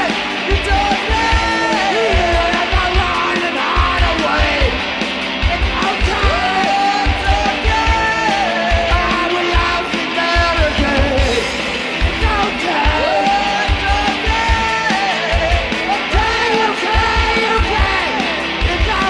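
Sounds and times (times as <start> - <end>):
male singer: 0.0 - 4.8, 5.5 - 19.0
drums with kick-drum beat: 0.0 - 19.0
electric guitars: 0.0 - 19.0.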